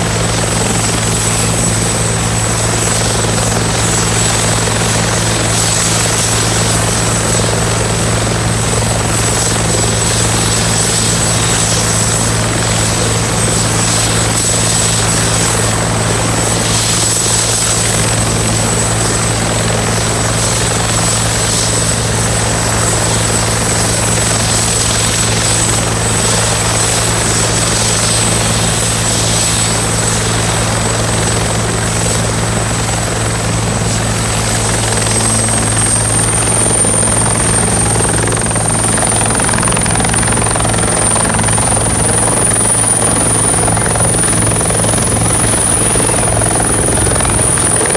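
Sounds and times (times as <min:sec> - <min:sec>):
helicopter rotor drone: 0:00.0 - 0:47.9
helicopter turbine whine: 0:00.0 - 0:47.9.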